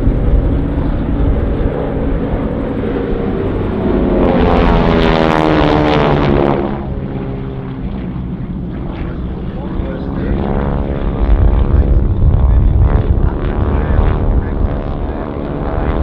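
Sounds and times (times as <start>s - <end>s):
propeller planes passing overhead: 0.0s - 16.0s.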